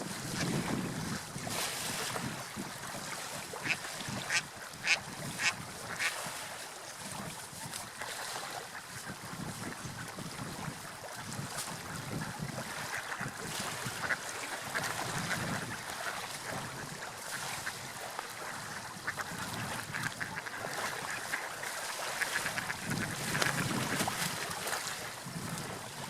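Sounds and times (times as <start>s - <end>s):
sea waves: 0.0s - 26.0s
wind: 0.0s - 26.0s.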